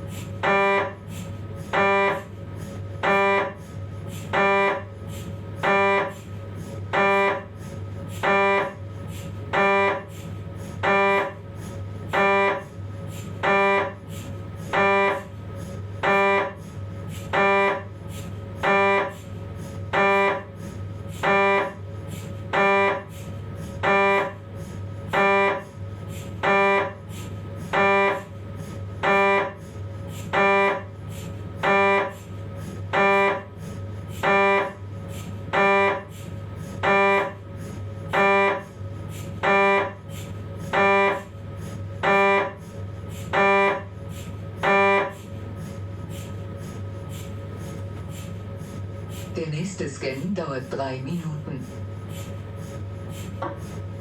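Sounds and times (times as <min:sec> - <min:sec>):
mri scanner buzzing pulses: 0:00.0 - 0:54.0
steady low hum: 0:00.0 - 0:54.0.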